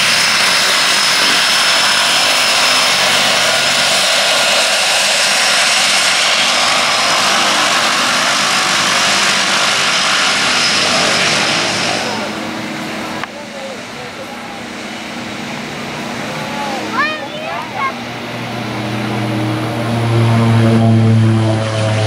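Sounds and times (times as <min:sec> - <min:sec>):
high turbine whine: 0:00.0 - 0:22.0
propeller drone: 0:00.0 - 0:22.0.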